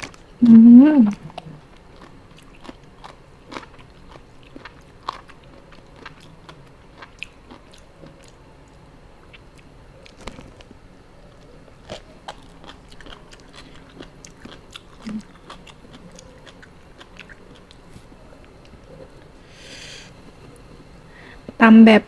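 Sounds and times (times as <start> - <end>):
chewing and crunching food: 0.0 - 0.5, 1.1 - 21.6.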